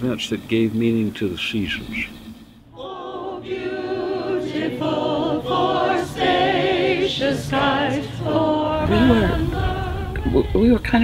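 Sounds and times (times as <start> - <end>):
mixed choir singing chords: 1.9 - 11.0.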